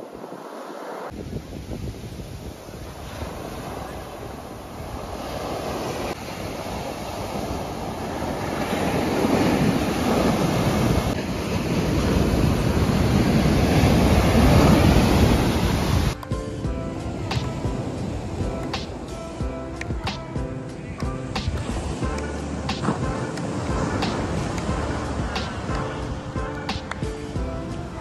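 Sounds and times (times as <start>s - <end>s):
sea surf breaking on sand: 0.0s - 28.0s
wind buffeting microphone: 1.0s - 28.0s.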